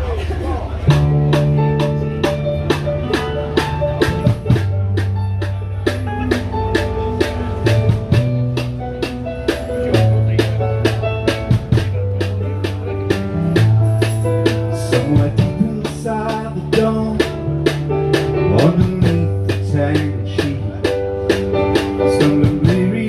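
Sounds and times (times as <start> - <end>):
drum kit beat: 0.8 - 23.0
electric bass low notes: 0.8 - 23.0
sustained keyboard notes: 0.9 - 23.0.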